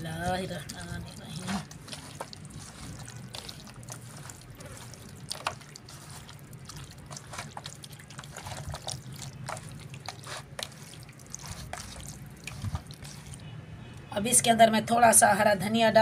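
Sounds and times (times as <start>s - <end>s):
wet squelches of mixing meat: 0.0s - 13.9s.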